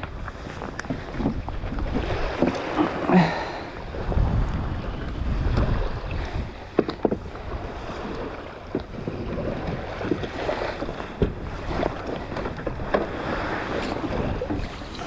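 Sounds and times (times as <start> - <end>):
kayak gear clicks and knocks: 0.0 - 2.9, 4.5 - 7.5, 8.1 - 15.0
small waves washing on shore: 0.0 - 15.0
wind buffeting microphone: 0.0 - 15.0.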